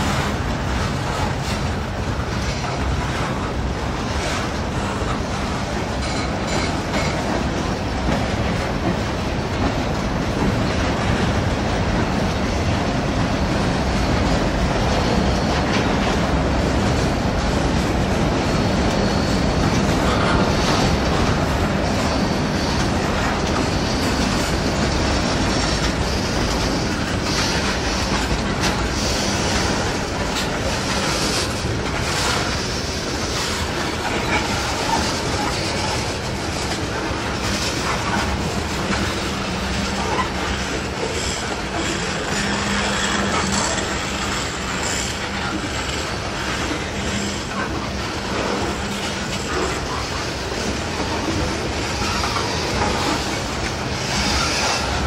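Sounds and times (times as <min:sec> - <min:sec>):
train rumble: 0:00.0 - 0:55.0
train wheels clacking over rail joints: 0:00.0 - 0:55.0.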